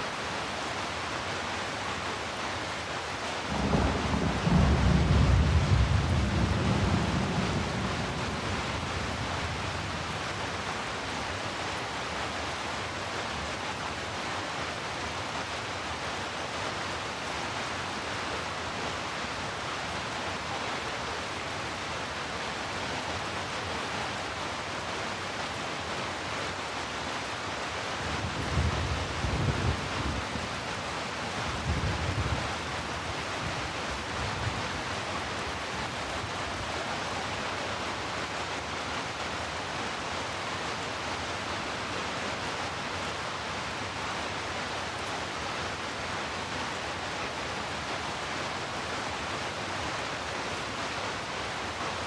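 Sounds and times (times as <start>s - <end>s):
heavy rainfall: 0.0s - 52.0s.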